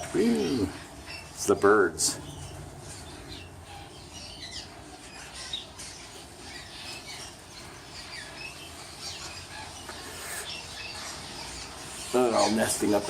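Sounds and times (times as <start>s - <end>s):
swallows chirping: 0.0s - 13.0s.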